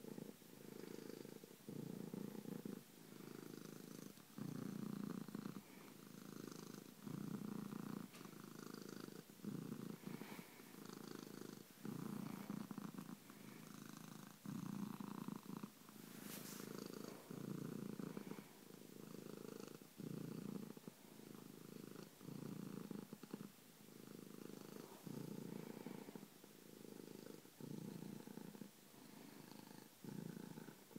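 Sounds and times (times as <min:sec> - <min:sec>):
cat purring: 0:00.0 - 0:30.9.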